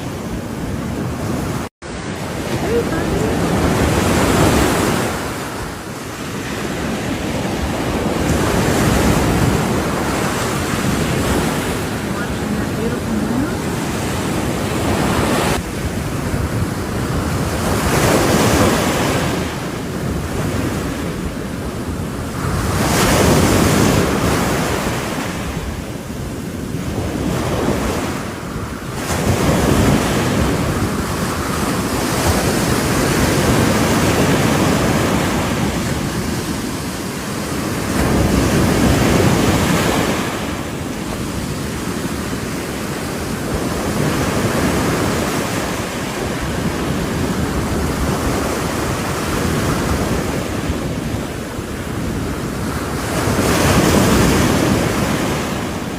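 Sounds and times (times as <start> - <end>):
ocean waves breaking: 0.0 - 55.9
wind buffeting microphone: 0.0 - 55.9.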